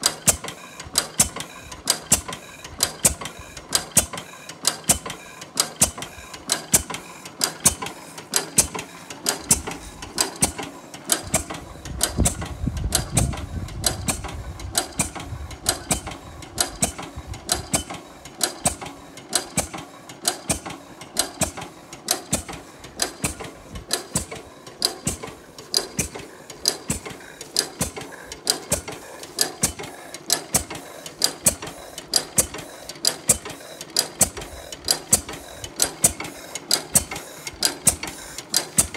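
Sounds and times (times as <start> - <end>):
sharp mechanical clicks and knocks: 0.0 - 38.9
stationary engine running: 0.0 - 38.9.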